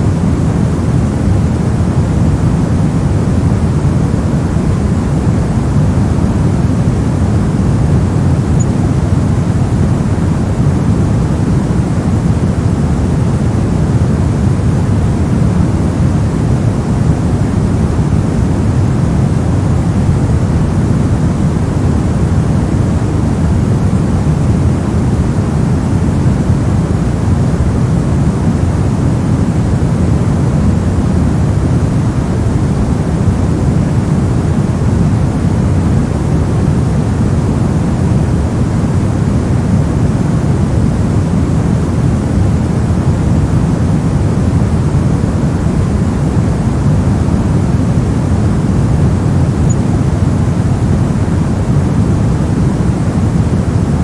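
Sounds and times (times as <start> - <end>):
white noise: 0.0 - 54.0.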